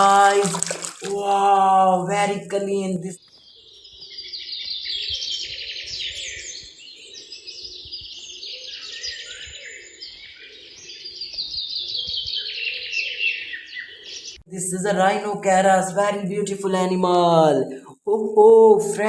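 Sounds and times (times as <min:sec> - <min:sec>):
birds chirping and trilling: 0:01.7 - 0:17.0.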